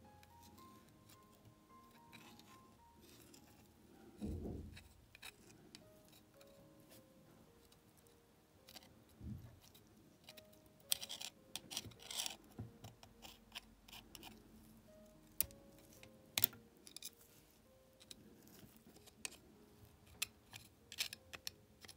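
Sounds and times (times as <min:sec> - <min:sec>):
faint background music: 0:00.0 - 0:21.9.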